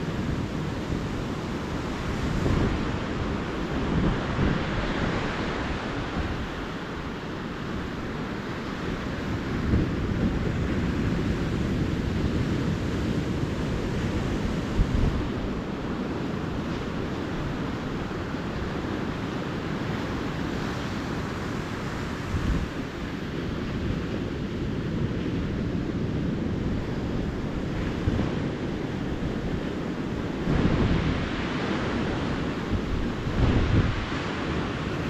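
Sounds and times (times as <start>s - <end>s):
ocean surf on beach: 0.0s - 35.0s
wind on microphone: 0.0s - 35.0s.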